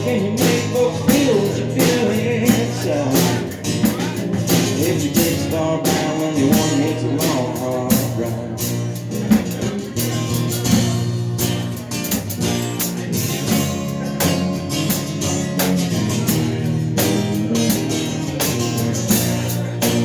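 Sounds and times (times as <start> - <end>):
blues band playing: 0.0 - 20.0.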